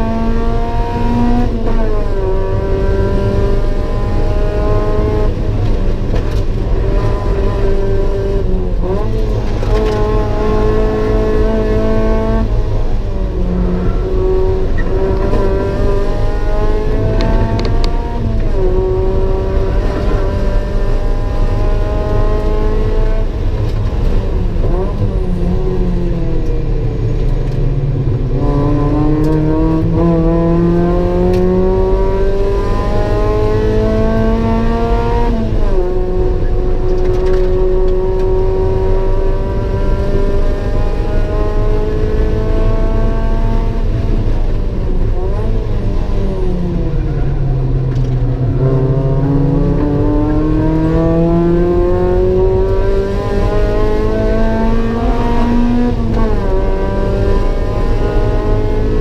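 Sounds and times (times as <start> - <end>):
car engine revving in cabin: 0.0 - 59.0.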